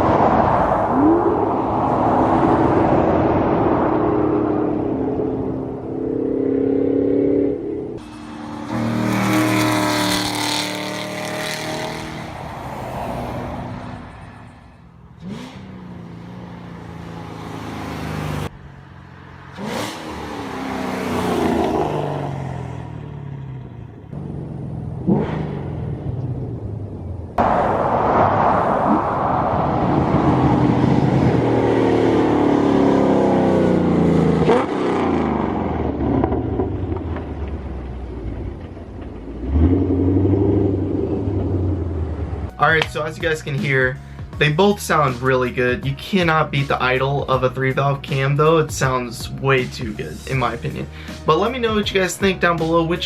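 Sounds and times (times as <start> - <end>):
car engine revving and accelerating: 0.0 - 42.5.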